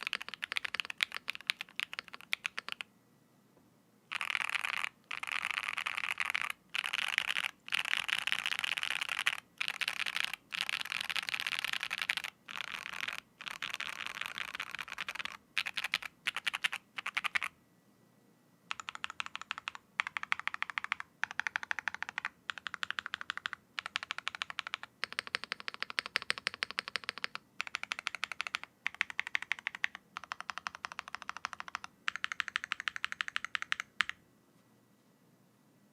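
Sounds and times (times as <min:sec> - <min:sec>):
mechanical keyboard typing: 0:00.0 - 0:02.8, 0:04.1 - 0:17.5, 0:18.7 - 0:34.2.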